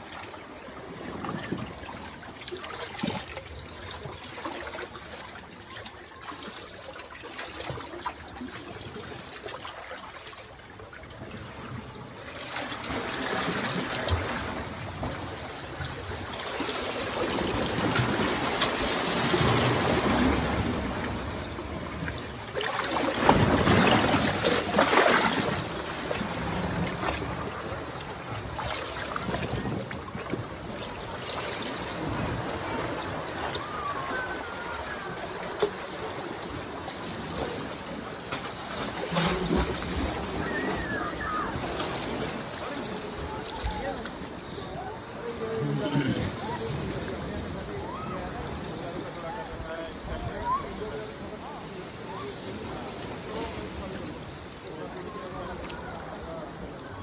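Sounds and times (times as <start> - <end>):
seawater sloshing against rock: 0.0 - 47.1.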